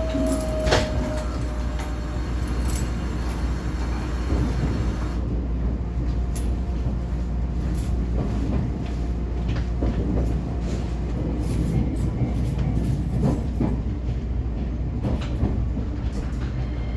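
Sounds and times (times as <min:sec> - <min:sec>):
train low rumble: 0:00.0 - 0:16.9.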